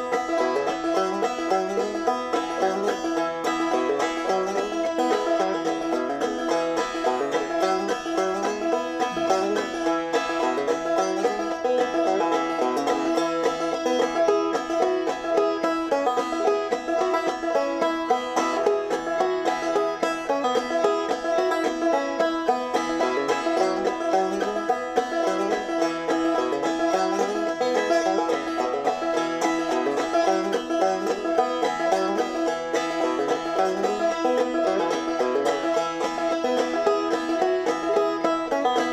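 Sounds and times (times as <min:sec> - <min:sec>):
plucked string music: 0:00.0 - 0:38.9.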